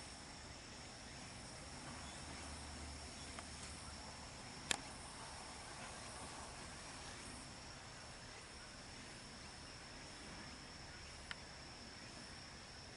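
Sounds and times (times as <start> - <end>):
insects trilling: 0.0 - 12.9
soft outdoor hiss: 0.0 - 12.9.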